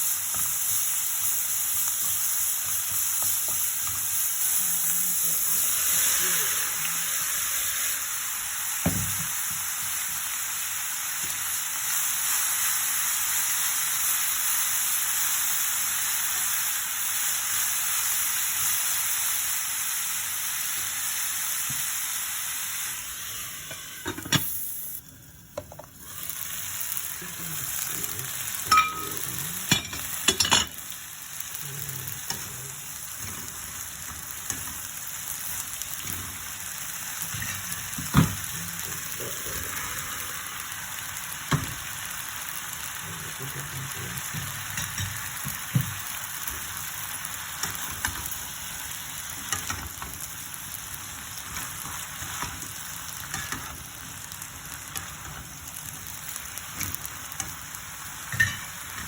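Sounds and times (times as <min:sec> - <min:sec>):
vegetables sizzling in a pan: 0:00.0 - 0:59.0.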